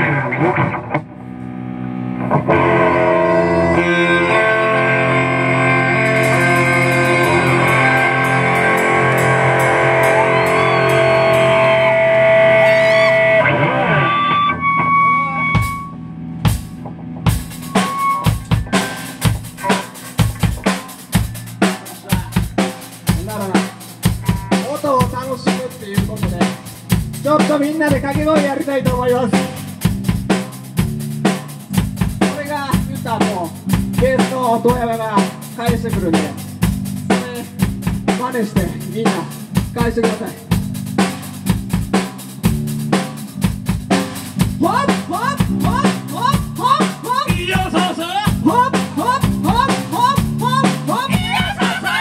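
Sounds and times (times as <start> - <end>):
bass guitar: 0.0 - 52.0
distorted electric guitar chords: 0.0 - 52.0
drums fast beat: 5.9 - 13.2, 15.6 - 52.0.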